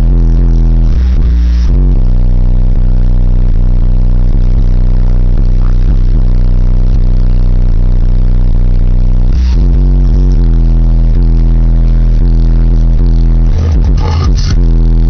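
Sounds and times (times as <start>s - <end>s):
deep bass music from subwoofer: 0.0s - 15.0s.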